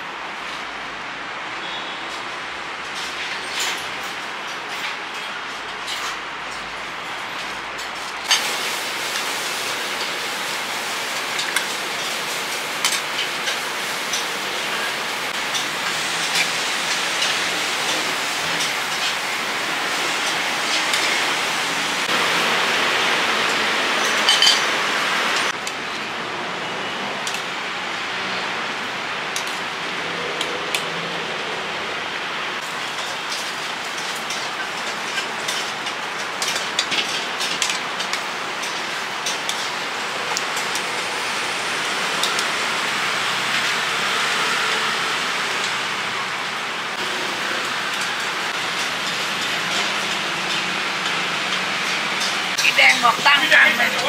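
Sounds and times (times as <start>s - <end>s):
water boiling in a wok: 6.1s - 54.0s.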